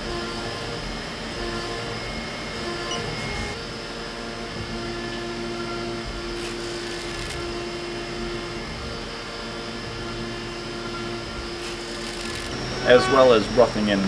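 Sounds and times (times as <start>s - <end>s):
milling machine cutting metal: 0.0s - 14.0s.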